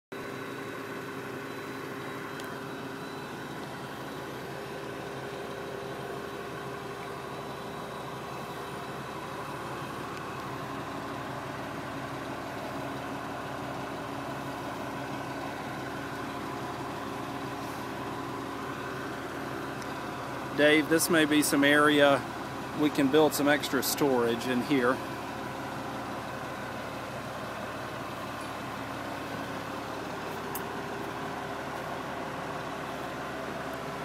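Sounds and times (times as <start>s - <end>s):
diesel engine idling: 0.1s - 34.0s.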